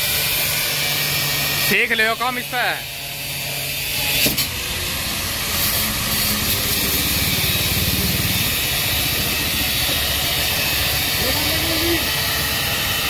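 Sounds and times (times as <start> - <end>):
angle grinder cutting metal: 0.0 - 13.0.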